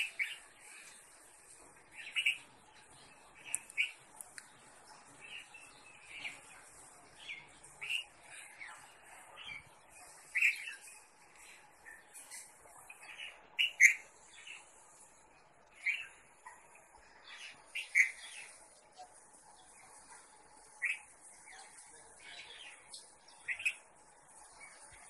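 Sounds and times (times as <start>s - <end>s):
bird chirping calls: 0.0s - 1.1s, 1.9s - 14.9s, 15.7s - 18.7s, 20.6s - 25.0s.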